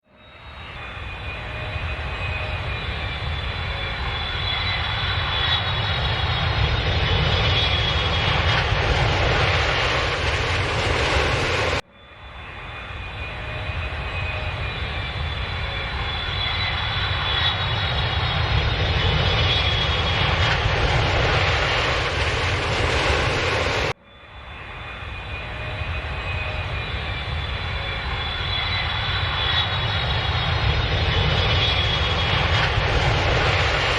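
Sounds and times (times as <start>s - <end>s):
airplane engine whining: 0.0s - 33.9s.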